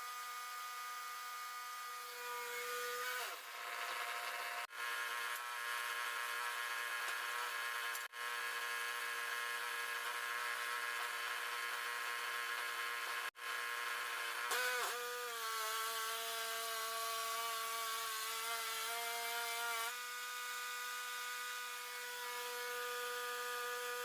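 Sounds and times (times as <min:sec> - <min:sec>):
bandsaw mill cutting log: 0:00.0 - 0:24.0.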